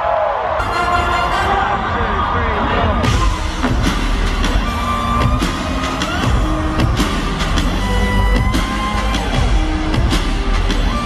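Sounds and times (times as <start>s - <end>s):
live concert music: 0.1s - 11.0s.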